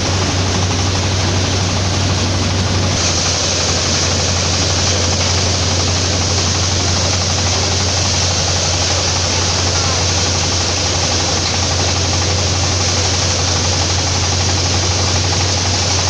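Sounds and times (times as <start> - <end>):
engine low hum: 0.0 - 16.0
threshing drum rushing noise: 0.0 - 16.0.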